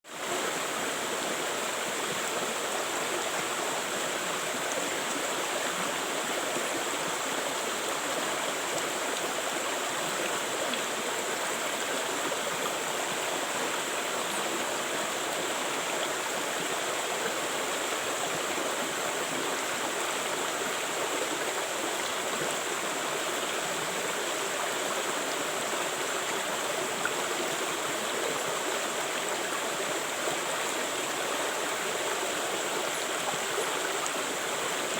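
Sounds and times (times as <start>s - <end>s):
river flowing: 0.1s - 34.9s.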